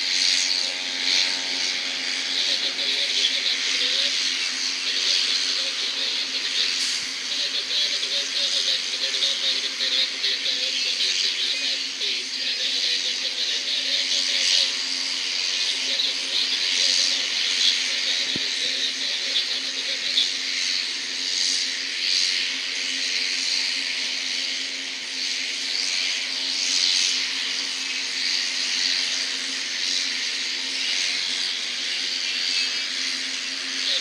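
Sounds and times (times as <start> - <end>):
jet engine idling: 0.0 - 34.0.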